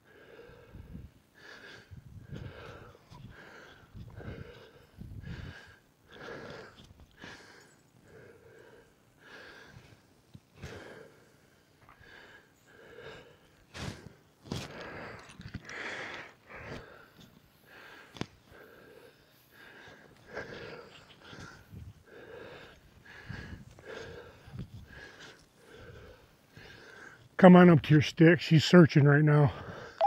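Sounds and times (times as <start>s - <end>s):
person breathing hard: 0.0s - 27.2s.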